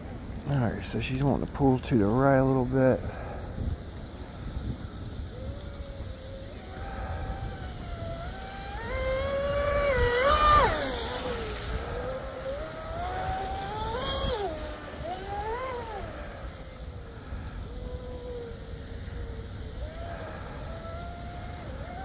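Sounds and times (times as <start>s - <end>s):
speedboat motor whining: 0.0s - 22.0s.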